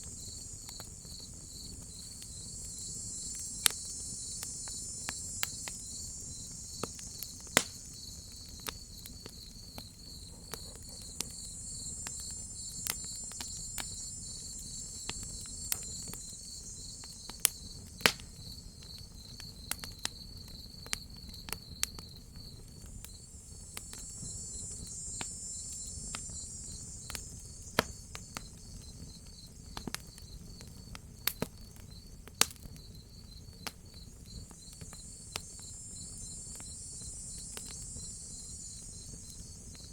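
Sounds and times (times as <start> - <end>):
high insect buzz: 0.0 - 19.6, 21.7 - 30.6, 33.1 - 39.9
crickets chirping: 0.0 - 39.9
wood fire crackling and popping: 0.0 - 39.9.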